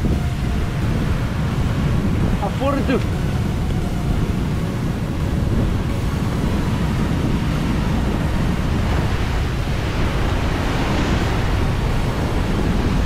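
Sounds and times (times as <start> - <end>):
surf breaking on rocky shore: 0.0 - 13.0
wind buffeting microphone: 0.0 - 13.0.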